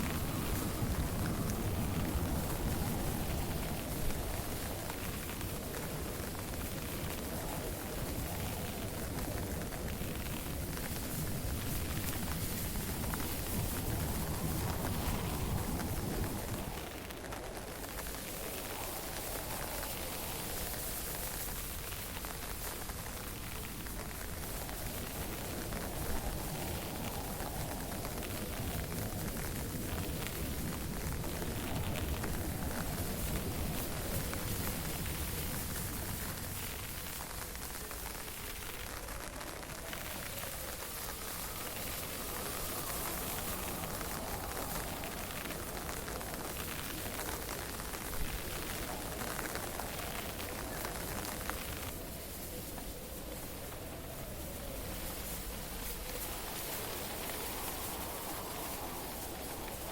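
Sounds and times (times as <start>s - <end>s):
drizzle and wind hissing: 0.0s - 59.9s.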